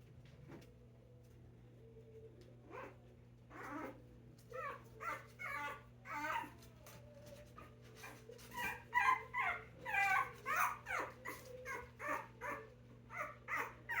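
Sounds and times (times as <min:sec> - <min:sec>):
puppies whining and yelping: 0:02.6 - 0:14.0.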